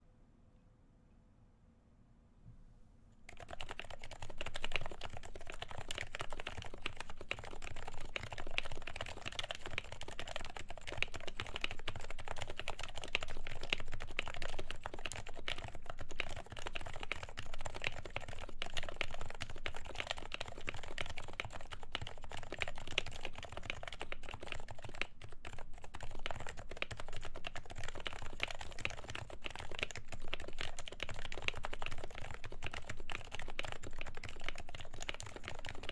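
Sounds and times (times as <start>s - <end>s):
fast keyboard typing: 3.3s - 35.9s.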